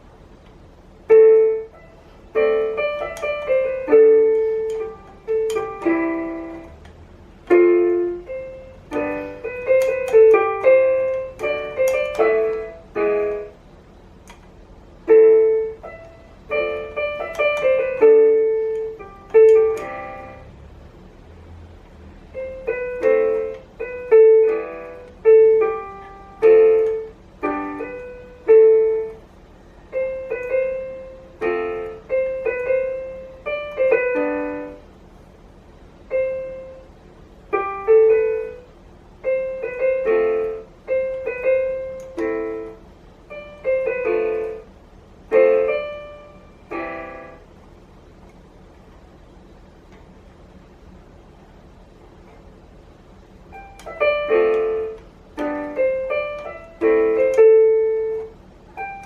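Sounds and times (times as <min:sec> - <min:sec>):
electronic keyboard piano melody: 0:00.0 - 0:59.0.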